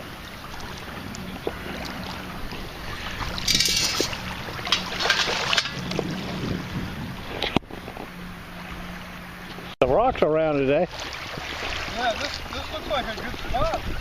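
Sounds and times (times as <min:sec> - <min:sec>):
wind on microphone: 0:00.0 - 0:08.9, 0:11.1 - 0:14.0
water sloshing along shore: 0:00.0 - 0:14.0.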